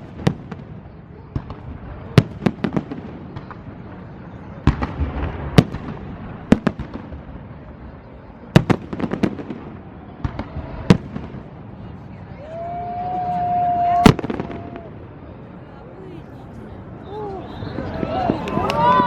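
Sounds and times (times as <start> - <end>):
firework bangs and cracks: 0.0 - 15.6, 17.6 - 19.0
firework crackle and rumble: 0.0 - 19.0.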